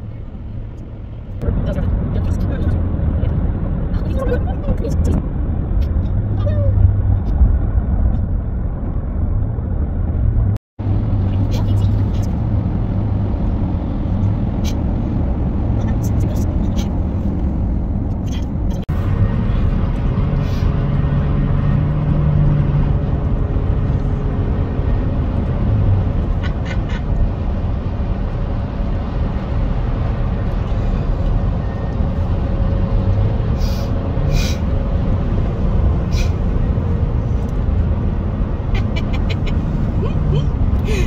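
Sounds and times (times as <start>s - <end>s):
car tyres and engine rumble: 0.0s - 41.0s.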